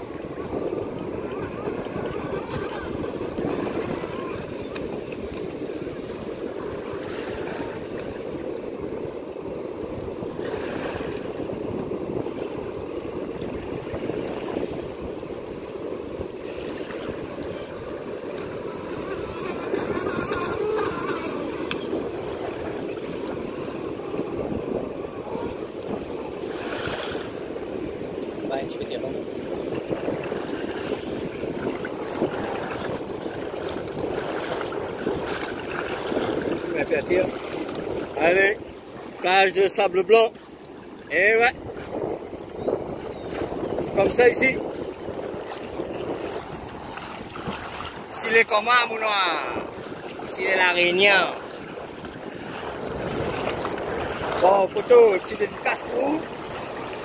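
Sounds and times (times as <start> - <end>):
water lapping: 0.0 - 9.0, 9.7 - 57.0
small waves washing: 0.0 - 57.0
wind buffeting microphone: 0.0 - 57.0
surf hiss: 1.5 - 41.6, 46.4 - 57.0.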